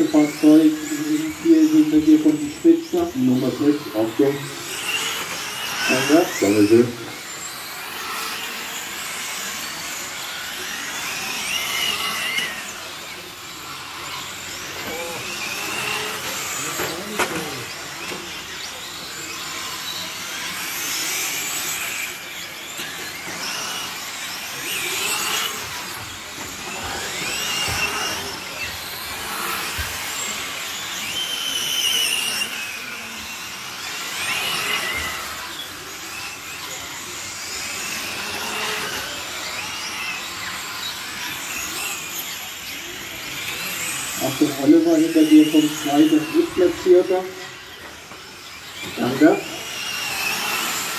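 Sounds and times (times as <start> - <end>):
rc car motors whining: 0.0 - 50.9.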